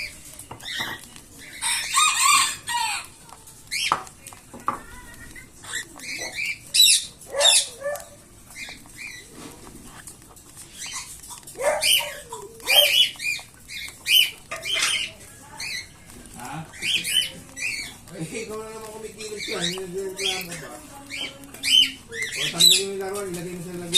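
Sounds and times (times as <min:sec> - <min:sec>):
chicks begging calls: 0:00.0 - 0:23.9.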